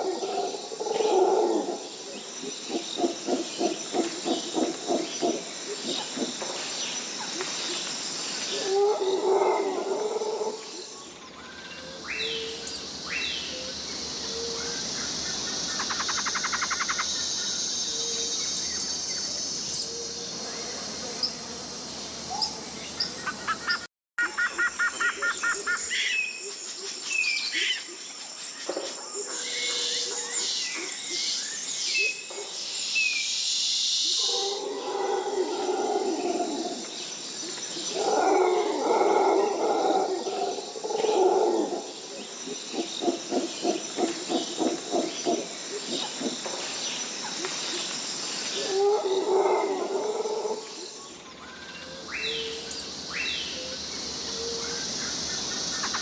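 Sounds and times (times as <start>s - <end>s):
high insect hiss: 0.0s - 23.8s, 24.6s - 56.0s.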